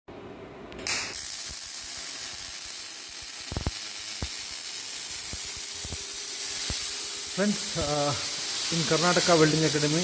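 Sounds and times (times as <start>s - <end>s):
welding arc crackles: 0.8s - 10.0s
welding arc sizzling: 0.8s - 10.0s.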